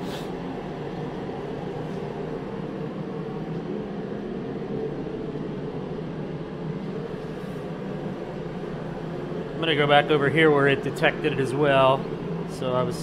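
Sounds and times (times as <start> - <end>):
heater fan and burner drone: 0.0 - 13.0.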